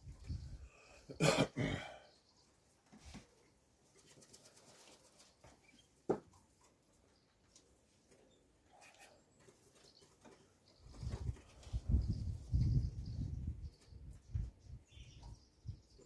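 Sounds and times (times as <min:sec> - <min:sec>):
pigeons moving softly: 0:02.4 - 0:15.3.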